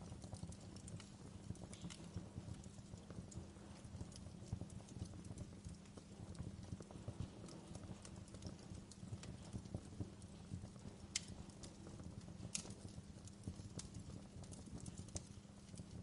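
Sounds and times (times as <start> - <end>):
fire crackling: 0.0 - 16.0
low rumble of flames: 0.0 - 16.0.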